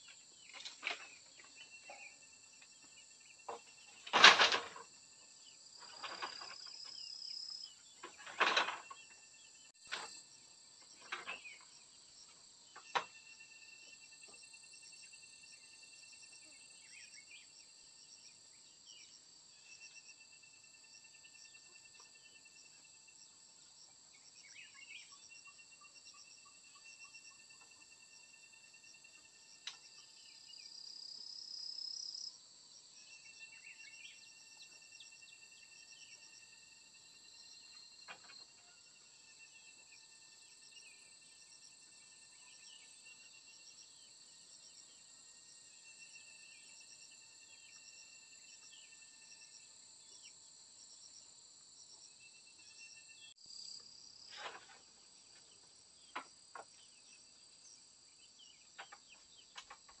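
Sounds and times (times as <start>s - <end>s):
high-pitched insect chorus: 0.0s - 60.0s.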